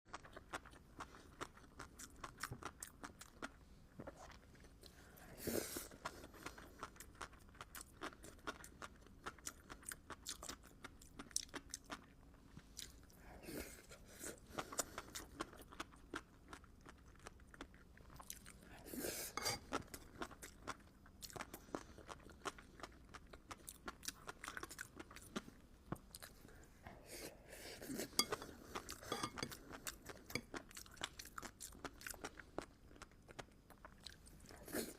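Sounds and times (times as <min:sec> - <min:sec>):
chewing and crunching food: 0:00.1 - 0:34.9.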